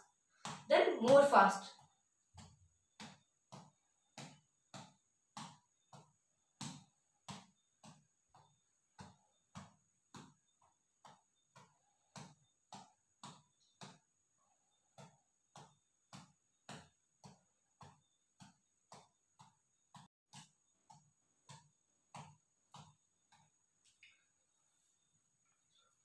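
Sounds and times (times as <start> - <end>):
knuckles tapping boxing ball: 0.4 - 14.2, 14.9 - 23.6.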